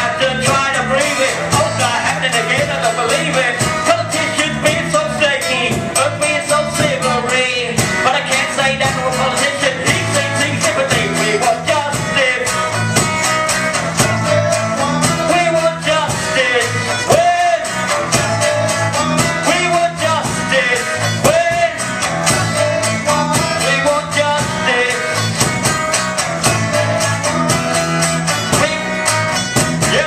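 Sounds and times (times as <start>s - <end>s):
person singing: 0.0s - 12.9s, 13.8s - 30.0s
strummed guitar chords: 0.0s - 30.0s.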